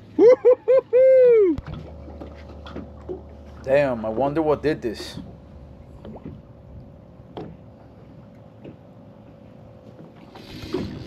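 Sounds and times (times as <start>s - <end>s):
boat engine hum: 0.0s - 11.0s.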